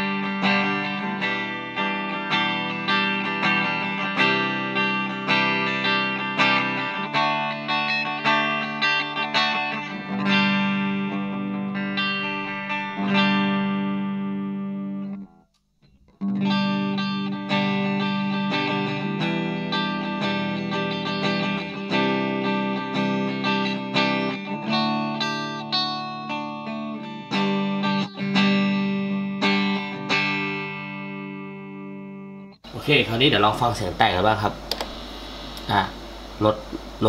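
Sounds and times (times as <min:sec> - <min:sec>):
electric guitar chords ringing: 0:00.0 - 0:15.4, 0:16.2 - 0:32.6.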